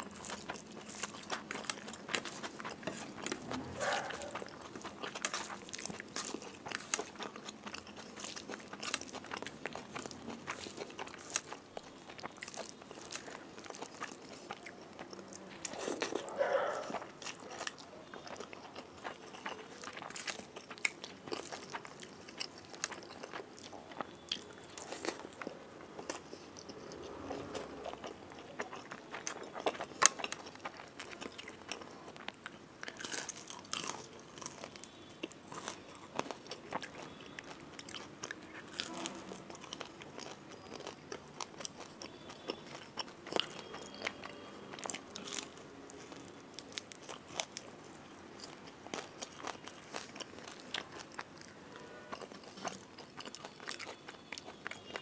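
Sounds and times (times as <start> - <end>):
person chewing rice: 0.0 - 55.0.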